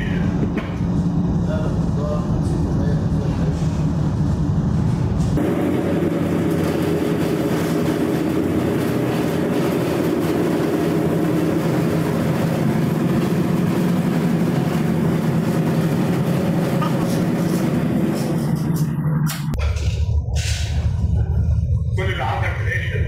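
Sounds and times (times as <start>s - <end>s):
diesel engines droning: 0.0s - 23.0s.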